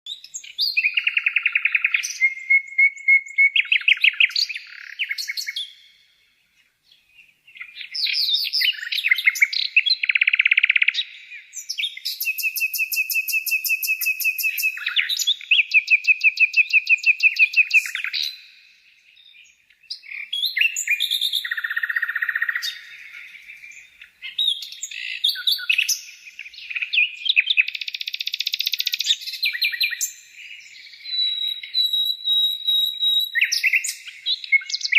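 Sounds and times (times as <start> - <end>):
songbird trills and whistles: 0.1 - 6.2, 6.9 - 34.9.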